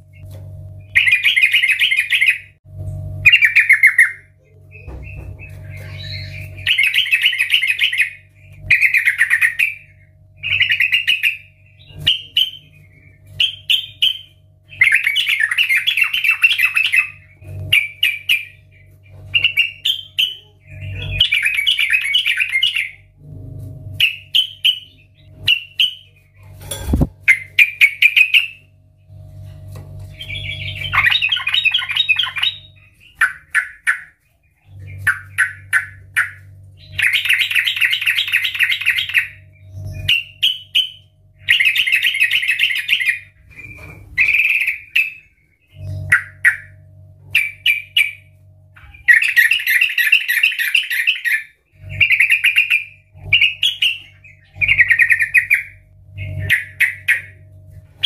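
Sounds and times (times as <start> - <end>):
bird singing chattering phrases: 0.1 - 2.5, 3.2 - 23.2, 30.1 - 58.0.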